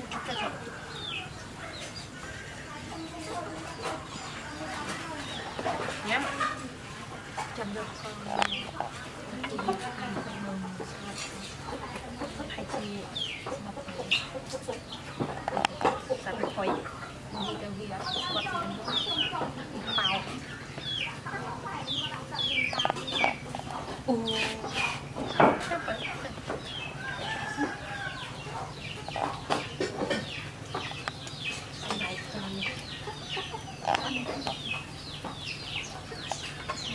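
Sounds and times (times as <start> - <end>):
birds chirping: 0.0 - 36.9
chickens clucking: 0.0 - 36.9.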